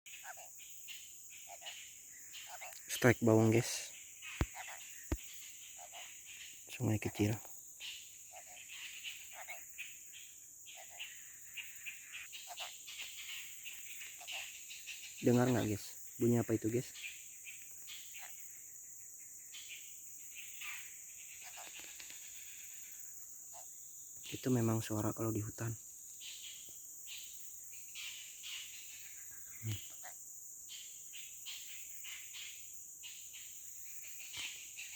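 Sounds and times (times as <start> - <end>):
high-pitched insect drone: 0.1 - 34.9.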